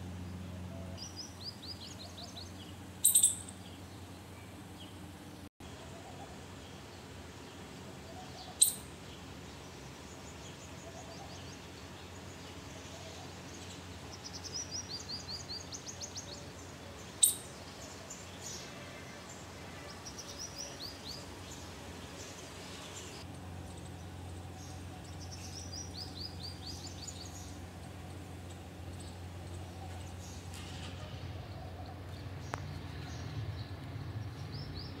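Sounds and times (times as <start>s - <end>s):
low outdoor background hum: 0.0s - 35.0s
small birds chirping: 0.2s - 35.0s.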